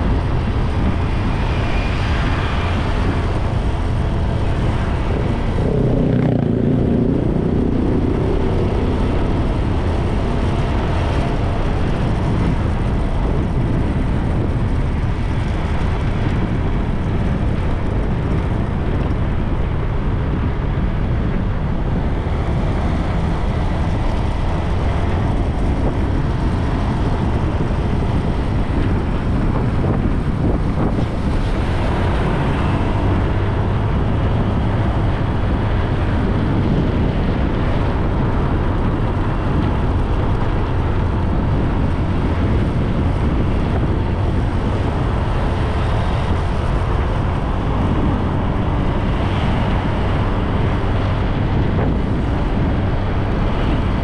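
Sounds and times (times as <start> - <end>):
road noise: 0.0 - 54.0
wind rumble on microphone: 0.0 - 54.0.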